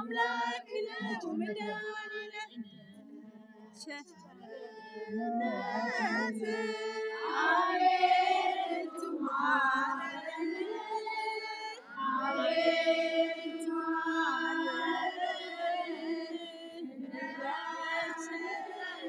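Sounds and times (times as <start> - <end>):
voices singing slow chant: 0.0 - 19.0.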